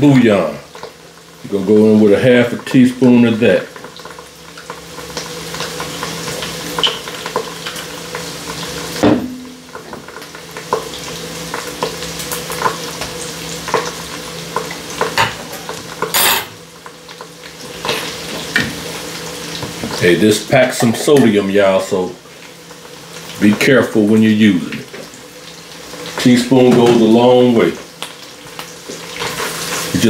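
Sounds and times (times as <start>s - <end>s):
vegetables sizzling in frying pan: 0.0s - 30.0s.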